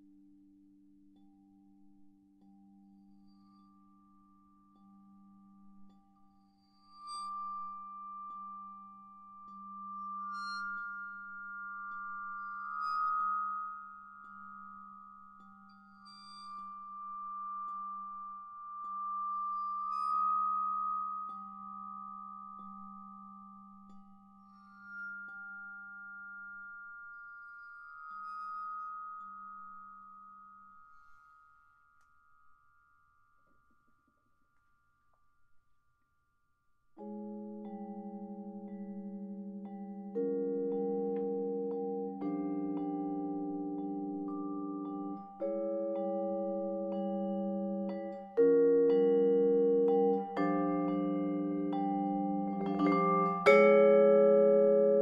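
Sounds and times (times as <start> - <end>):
bowed vibraphone tones: 2.4 - 31.8, 37.0 - 55.0.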